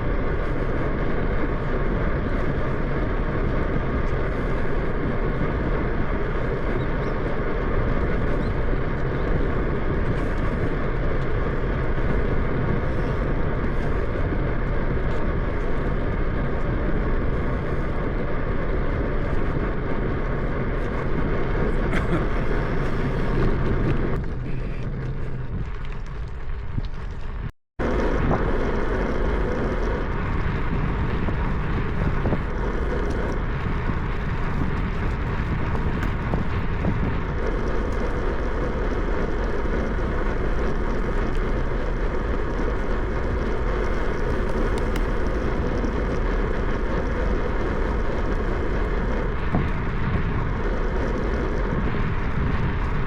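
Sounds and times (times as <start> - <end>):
bicycle road noise: 0.0 - 53.0
wind rush on microphone: 0.0 - 53.0.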